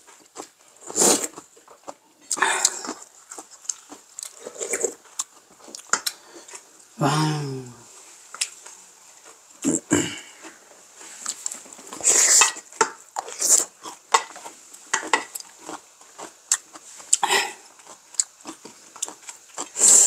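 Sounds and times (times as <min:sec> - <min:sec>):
chewing and eating sounds: 0:00.0 - 0:06.9, 0:08.4 - 0:20.0.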